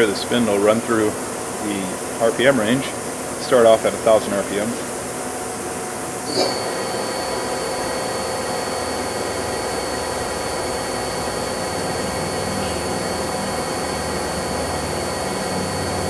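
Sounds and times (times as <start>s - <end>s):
machine spindle whine and hum: 0.0s - 16.0s.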